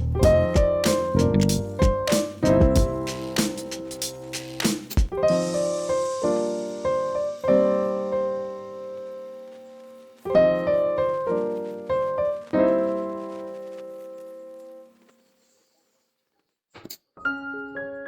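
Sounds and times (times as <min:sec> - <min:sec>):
piano chords: 0:00.0 - 0:14.9, 0:17.2 - 0:18.0.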